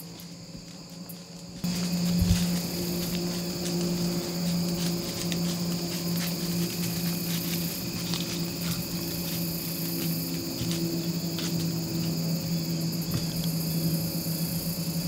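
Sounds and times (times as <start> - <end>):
crickets and insects trilling: 0.0 - 15.0
low steady hum: 0.0 - 15.0.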